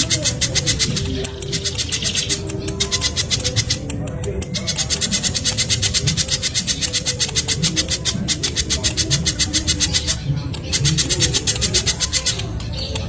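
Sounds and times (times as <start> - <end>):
bird calling in sharp high chips: 0.0 - 13.0.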